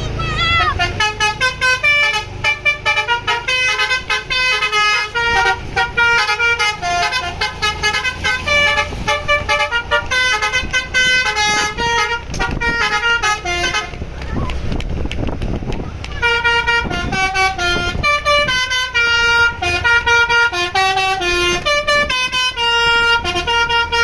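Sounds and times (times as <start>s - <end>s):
multi-tone bus horn tune: 0.0s - 14.2s, 16.1s - 24.0s
engine rumble: 0.0s - 24.0s.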